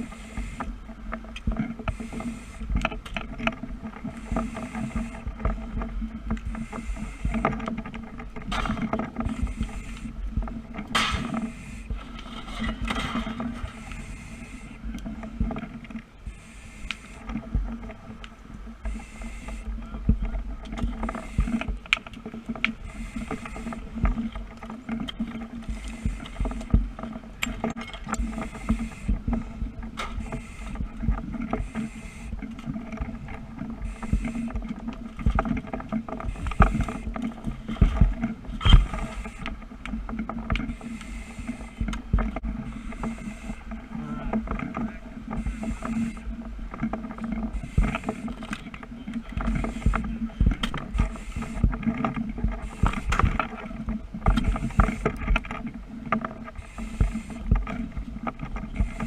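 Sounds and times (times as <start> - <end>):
knocks and crackles: 0.0 - 59.0
low mechanical hum: 0.0 - 59.0.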